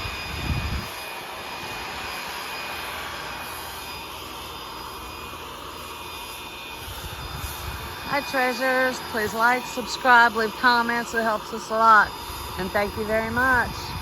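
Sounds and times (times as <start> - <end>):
mechanical drone: 0.0 - 14.0.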